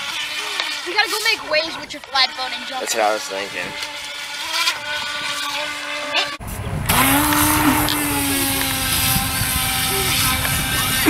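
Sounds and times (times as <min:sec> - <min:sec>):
model boat motor whining: 0:00.0 - 0:11.0.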